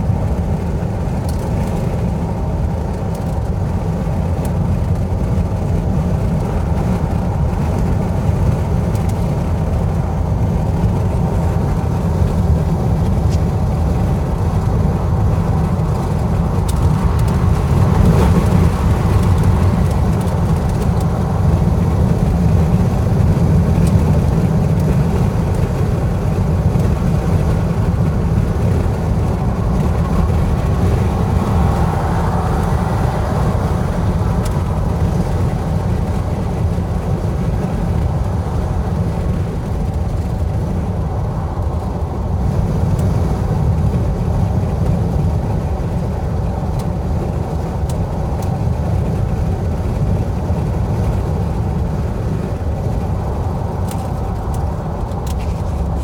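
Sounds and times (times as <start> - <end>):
car road noise at highway speed: 0.0 - 56.0.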